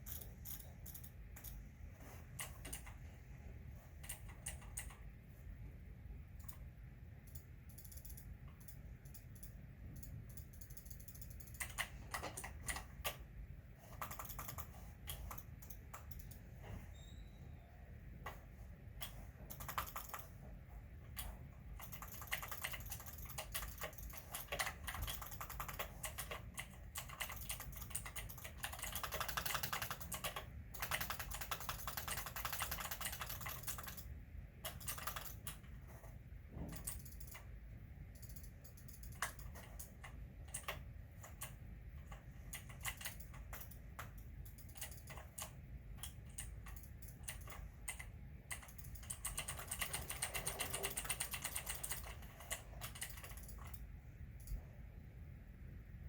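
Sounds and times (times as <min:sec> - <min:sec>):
keyboard typing clicks: 0:02.4 - 0:03.0, 0:04.0 - 0:05.0, 0:06.4 - 0:13.2, 0:13.8 - 0:16.4, 0:18.2 - 0:20.4, 0:21.1 - 0:36.0, 0:36.6 - 0:37.5, 0:38.2 - 0:53.8.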